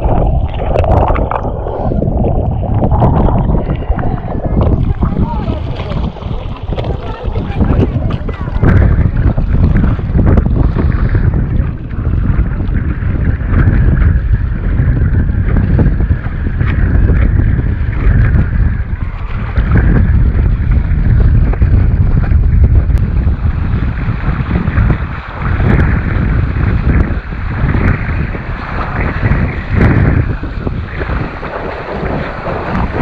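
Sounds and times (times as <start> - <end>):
water rushing and splashing: 0.0 - 33.0
wind buffeting microphone: 0.0 - 33.0.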